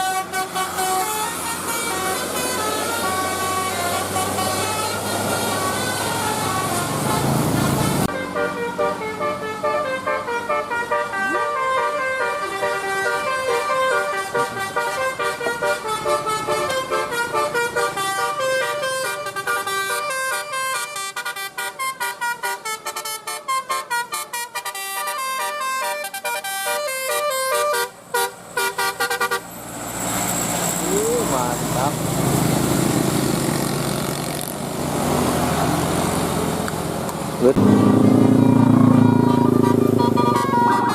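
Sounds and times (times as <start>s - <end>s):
musical bus horn tune: 0.0s - 29.6s, 37.5s - 40.9s
vehicle rumble: 0.0s - 40.9s.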